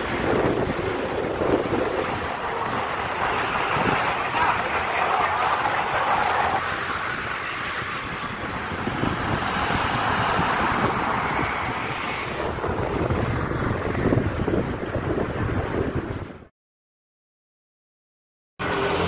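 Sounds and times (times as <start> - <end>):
road and traffic noise: 0.0 - 16.5, 18.6 - 19.0
wind buffeting microphone: 0.0 - 16.5.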